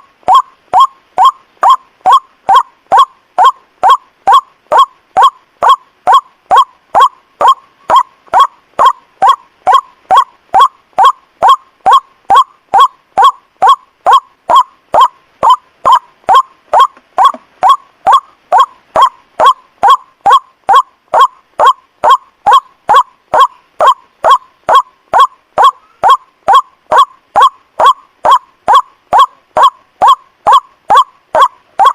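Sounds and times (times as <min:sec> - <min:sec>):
bird call repeated: 0:00.3 - 0:31.9.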